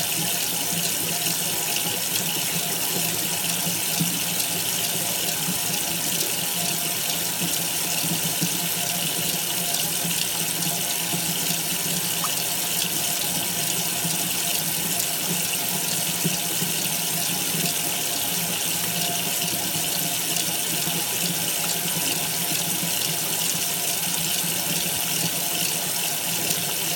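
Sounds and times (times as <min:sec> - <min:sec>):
tap water running: 0:00.0 - 0:26.9.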